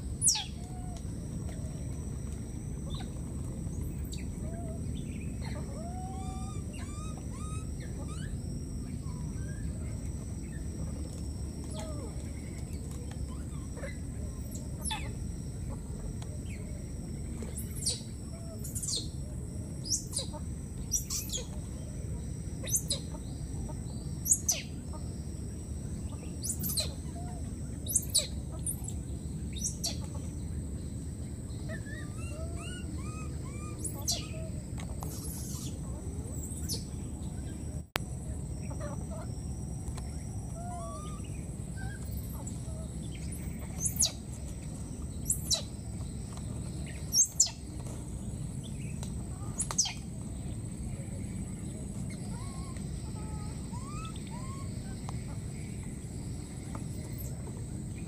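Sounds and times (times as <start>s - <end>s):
steady low rumble: 0.0s - 58.0s
birds chirping: 0.1s - 58.0s.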